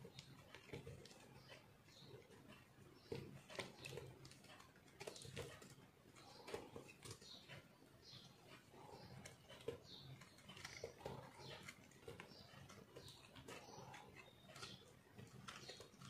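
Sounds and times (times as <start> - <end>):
knife scraping soap: 0.0 - 16.0.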